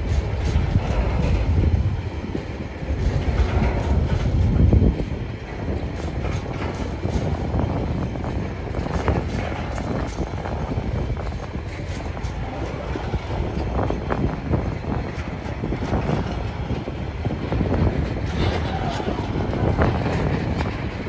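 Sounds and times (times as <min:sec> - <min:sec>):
sharp clacks of train wheels: 0:00.0 - 0:21.0
steel wheels rumbling on rail: 0:00.0 - 0:21.0.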